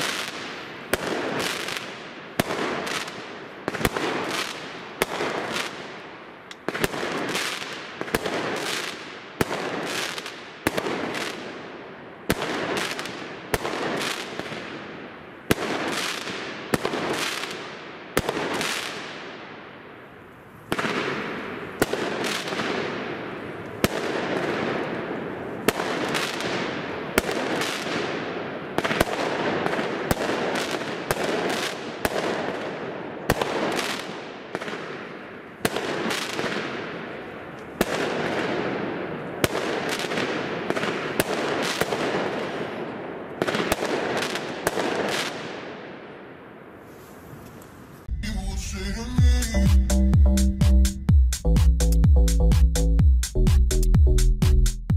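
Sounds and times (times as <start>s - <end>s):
fireworks bangs: 0.0s - 19.5s, 20.7s - 46.2s.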